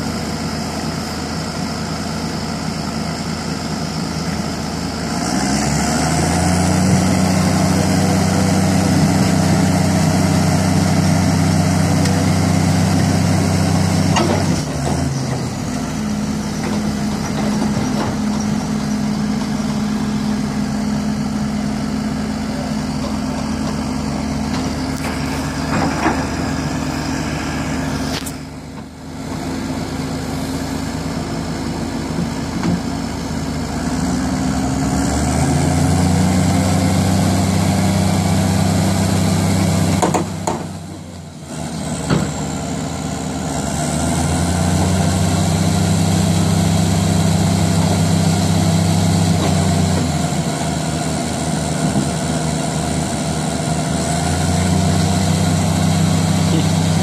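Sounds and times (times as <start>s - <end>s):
diesel engines working under load: 0.0s - 57.0s.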